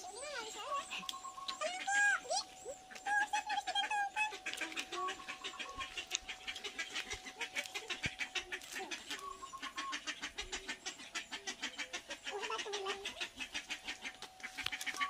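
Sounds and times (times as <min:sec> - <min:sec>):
lower bird calls: 0:00.0 - 0:12.3
birds chirping: 0:00.0 - 0:15.0.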